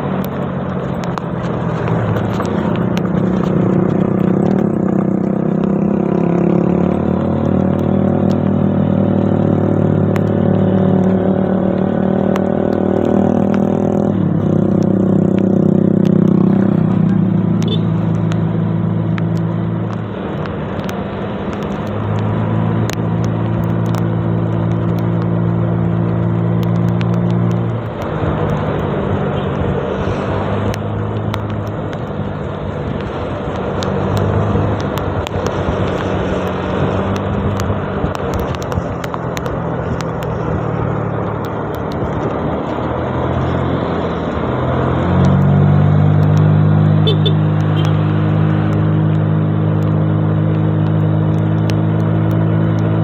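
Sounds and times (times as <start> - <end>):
wind and road rush: 0.0 - 53.0.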